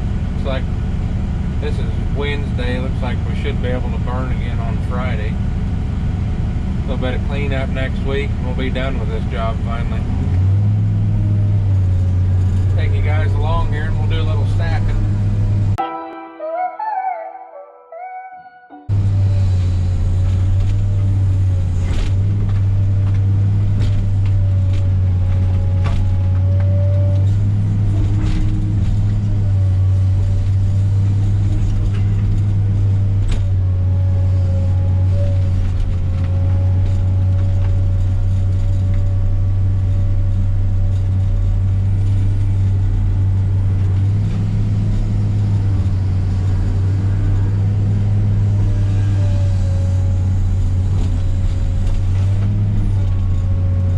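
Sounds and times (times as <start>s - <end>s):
excavator diesel engine: 0.0s - 15.8s, 18.9s - 53.9s.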